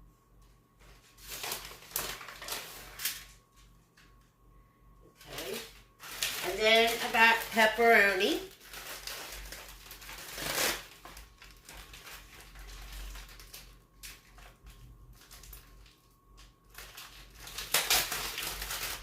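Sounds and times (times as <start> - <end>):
plastic packaging rustling: 0.8 - 3.8, 5.2 - 19.0.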